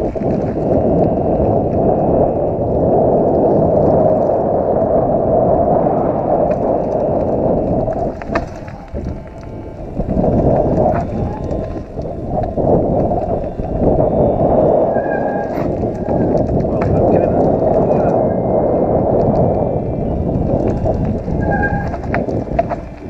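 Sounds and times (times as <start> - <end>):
tyres on gravel: 0.0 - 4.5, 5.8 - 23.0
bike clicking and rattling: 0.0 - 23.0
wind rushing on microphone: 0.0 - 23.0.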